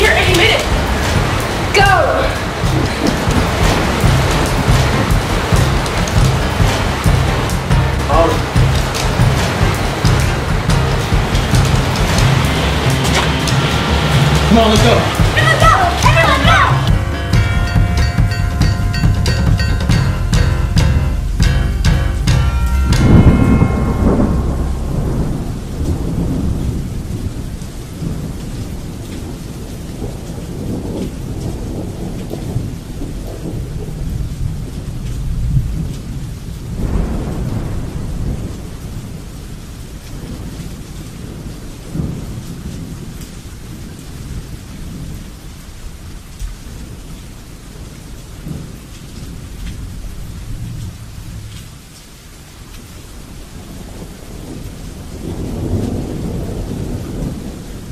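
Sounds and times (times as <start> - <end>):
rolling thunder: 0.0 - 57.9
steady rain: 0.0 - 57.9.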